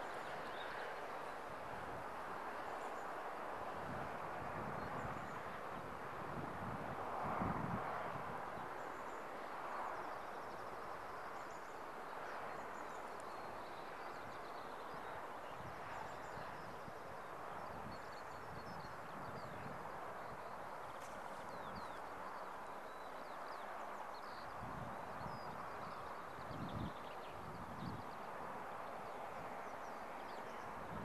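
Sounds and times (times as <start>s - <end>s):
steady outdoor hiss: 0.0s - 31.0s.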